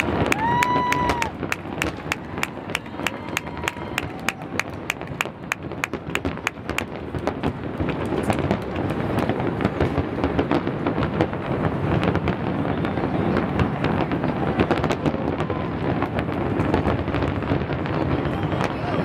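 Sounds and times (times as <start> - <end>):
fireworks booming: 0.0 - 19.0
sharp firework cracks: 0.0 - 19.0.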